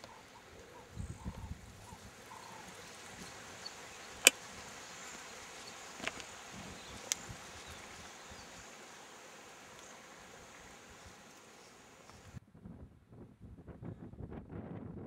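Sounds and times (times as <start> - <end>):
insects buzzing: 0.0 - 12.4.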